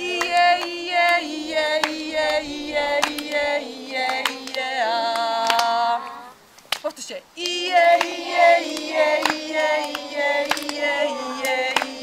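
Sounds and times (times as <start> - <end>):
handclaps: 0.0 - 5.8, 6.6 - 12.0
woman singing: 0.0 - 6.4, 7.4 - 12.0.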